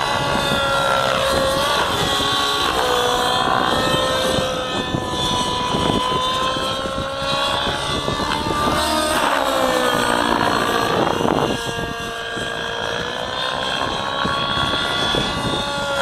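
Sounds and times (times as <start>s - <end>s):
model helicopter engine whine: 0.0s - 16.0s.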